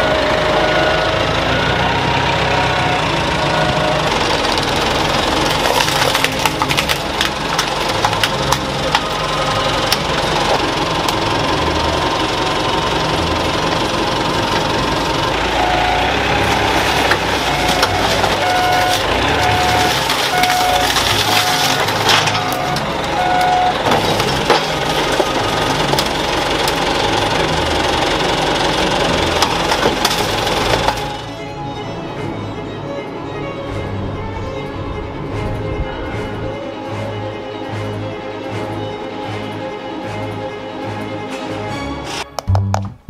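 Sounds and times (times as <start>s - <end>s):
forklift engine running: 0.0s - 43.0s.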